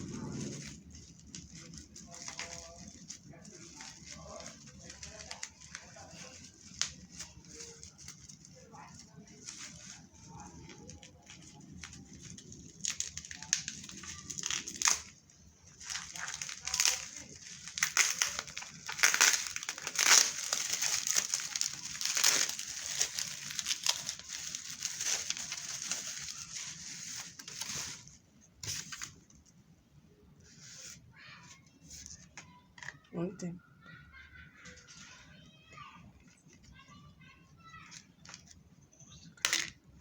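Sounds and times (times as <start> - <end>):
packaging crinkling and tearing: 0.0 - 29.4, 36.2 - 40.0.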